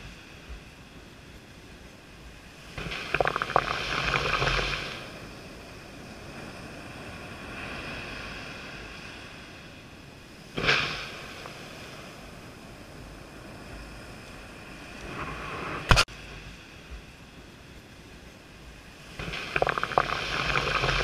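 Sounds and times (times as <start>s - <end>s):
surf washing up sand: 0.0s - 21.0s.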